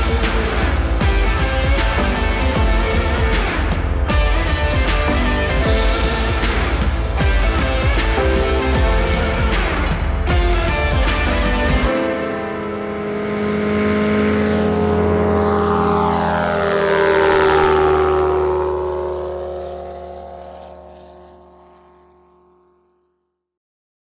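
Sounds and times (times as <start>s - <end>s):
propeller airplane flying past: 0.0s - 23.4s.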